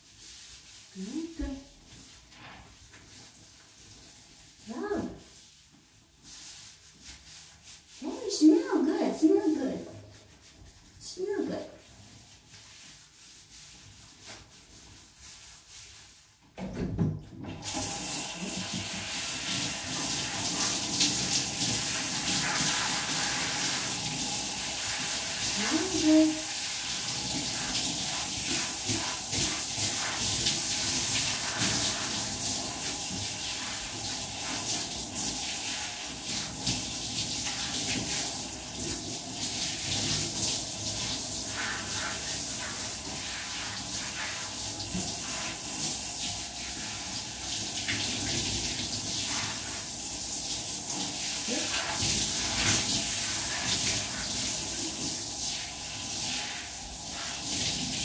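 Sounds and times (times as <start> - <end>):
shower spray hissing: 0.0 - 2.3, 6.2 - 16.2, 17.6 - 58.0.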